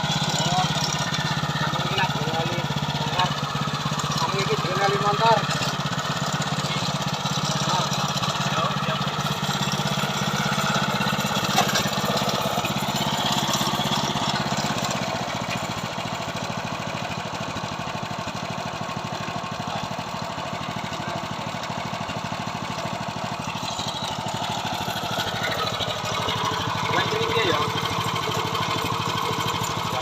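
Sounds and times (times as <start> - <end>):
small tiller engine running: 0.0 - 30.0.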